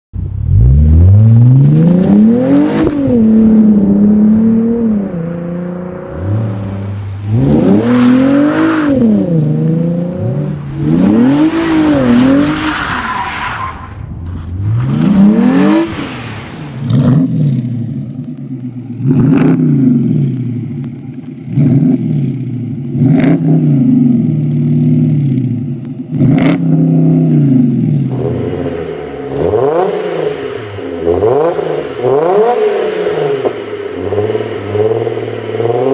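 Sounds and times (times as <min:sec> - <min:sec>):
exhaust cracks: 0:00.2 - 0:26.7, 0:28.0 - 0:35.9
car engine revving: 0:00.2 - 0:35.9.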